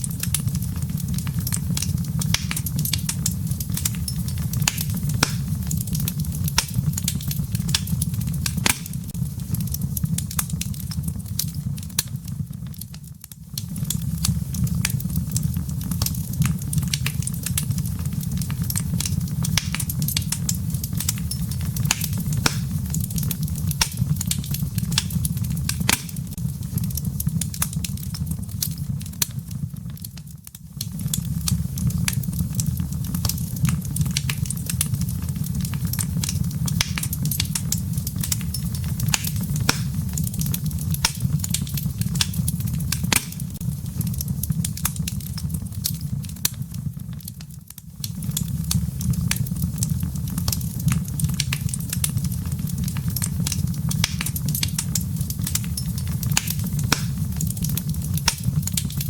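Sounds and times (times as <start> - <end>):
fireplace fire crackling and popping: 0.0 - 59.0
low rumble of burning: 0.0 - 59.0.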